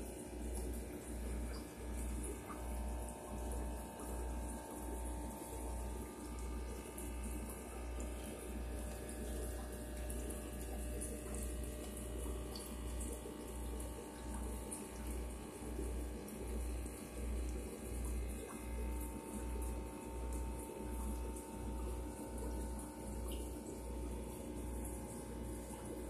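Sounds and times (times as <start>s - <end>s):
aquarium filter bubbling: 0.0s - 26.0s.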